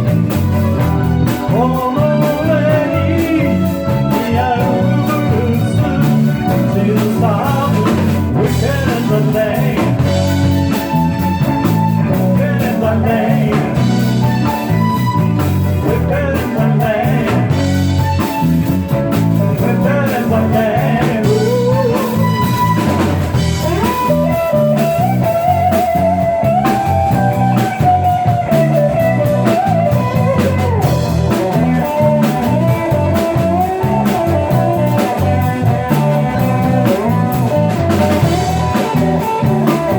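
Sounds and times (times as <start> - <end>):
electric guitar: 0.0 - 39.9
live blues band: 0.0 - 39.9.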